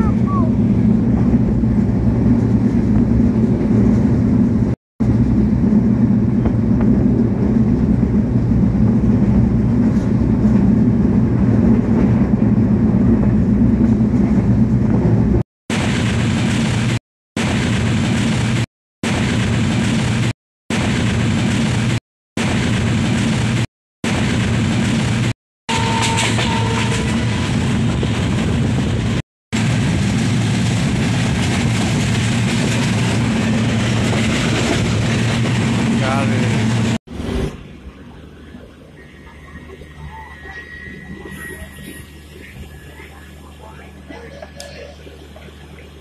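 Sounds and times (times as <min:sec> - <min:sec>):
passenger train rumbling: 0:00.0 - 0:17.0, 0:24.3 - 0:46.0.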